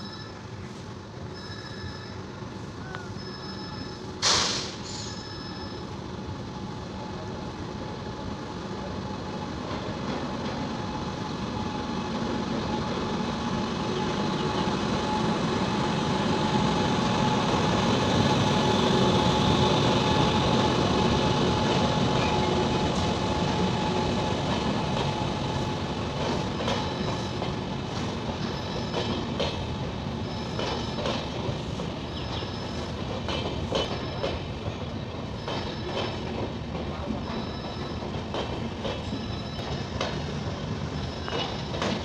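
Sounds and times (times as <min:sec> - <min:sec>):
train rumbling into station: 0:00.0 - 0:42.0.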